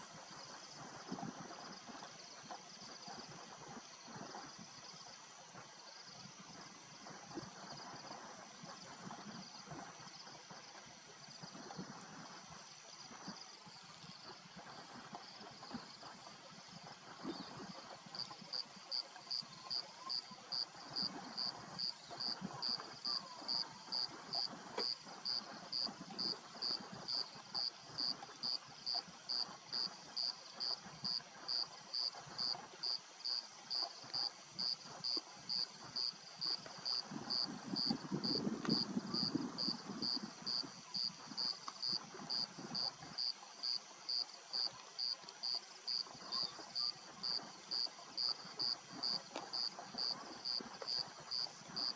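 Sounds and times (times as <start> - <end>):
cricket chirping: 5.8 - 51.9.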